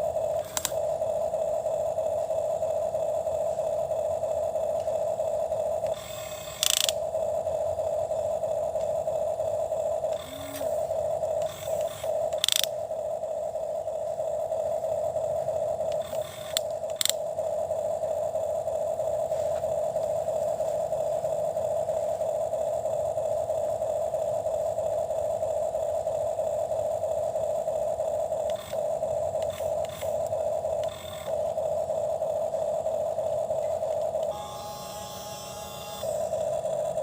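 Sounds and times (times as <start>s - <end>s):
toy electric motor whining: 0.0s - 20.0s, 20.9s - 37.0s.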